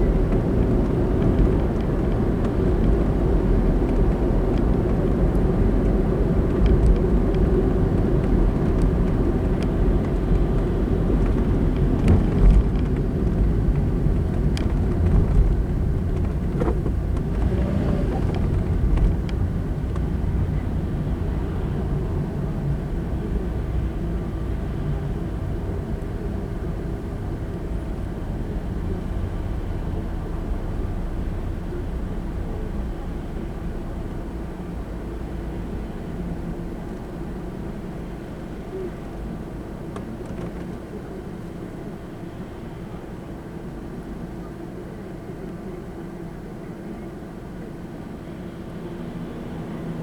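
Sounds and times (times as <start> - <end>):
car road and engine noise: 0.0 - 50.0.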